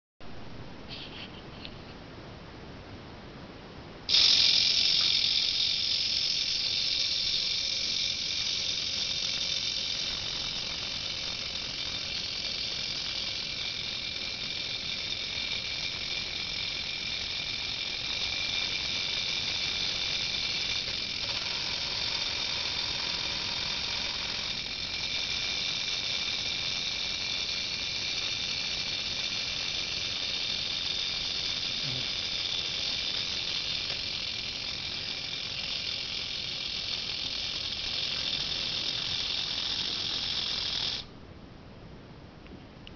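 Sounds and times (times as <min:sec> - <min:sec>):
low hum: 0:03.5 - 0:42.2
small gear motor whine: 0:04.1 - 0:41.1.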